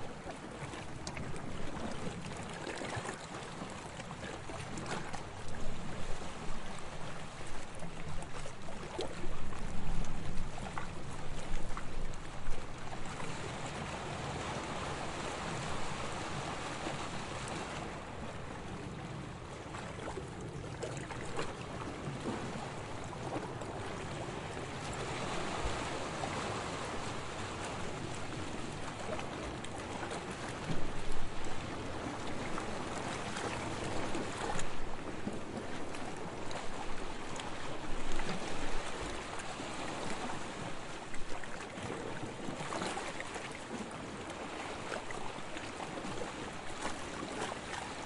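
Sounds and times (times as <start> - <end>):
sea waves lapping: 0.0 - 48.0.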